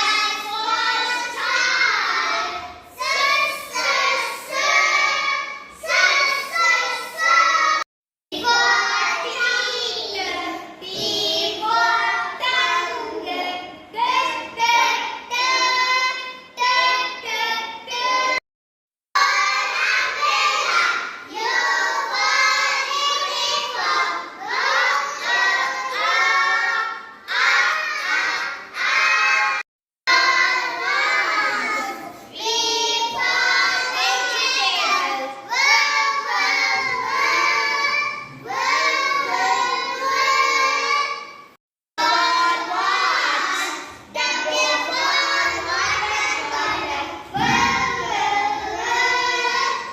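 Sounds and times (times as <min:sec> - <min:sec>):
children singing and chanting: 0:00.0 - 0:18.4, 0:19.2 - 0:49.9.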